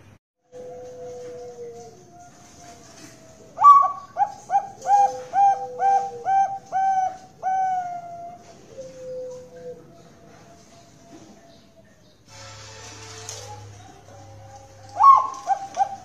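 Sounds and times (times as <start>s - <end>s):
faint long dove coos: 0.4s - 12.0s, 14.4s - 16.0s
dove cooing: 0.5s - 12.0s, 13.5s - 16.0s.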